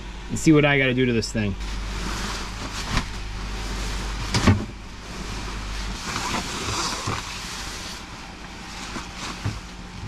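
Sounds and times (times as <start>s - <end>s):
low hum: 0.0s - 10.0s
sailcloth rustling and sliding: 1.6s - 9.9s.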